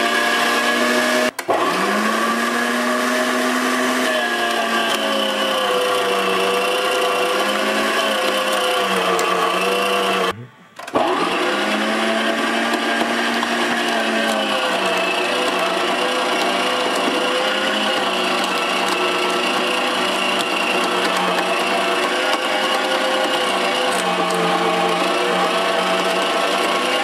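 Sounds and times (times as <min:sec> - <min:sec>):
meat grinder motor running: 0:00.0 - 0:10.3, 0:10.9 - 0:27.0.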